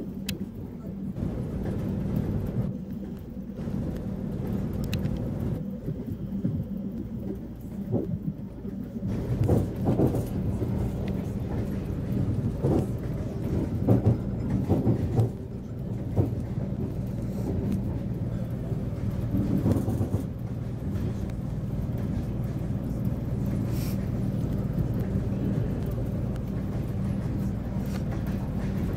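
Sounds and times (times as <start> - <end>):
train rumbling: 0.0 - 28.9.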